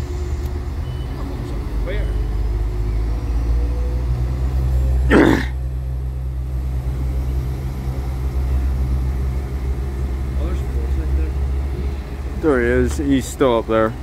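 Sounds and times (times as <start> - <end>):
diesel train engines rumbling: 0.0 - 14.0.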